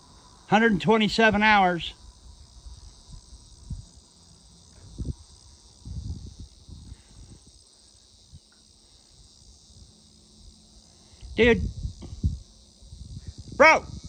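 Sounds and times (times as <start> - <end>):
high-pitched insect chirring: 0.0 - 14.0.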